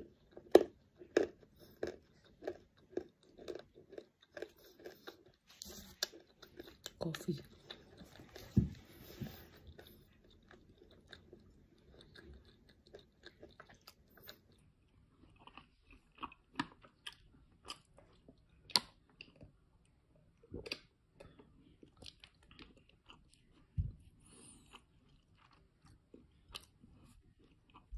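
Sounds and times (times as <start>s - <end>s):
chewing fruit with crunches: 0.0s - 27.9s.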